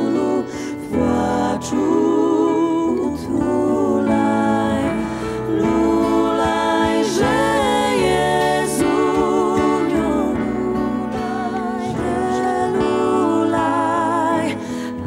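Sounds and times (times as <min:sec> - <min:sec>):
backing vocals: 0:00.0 - 0:15.0
piano accompaniment: 0:00.0 - 0:15.0
woman singing carol: 0:00.0 - 0:15.0.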